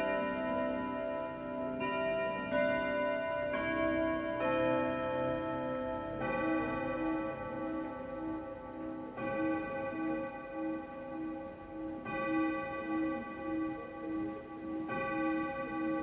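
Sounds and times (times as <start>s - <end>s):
clock gong rods ringing: 0.0s - 16.0s.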